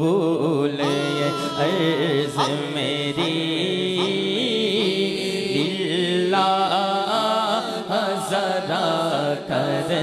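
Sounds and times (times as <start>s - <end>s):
man singing into a microphone: 0.0s - 10.0s.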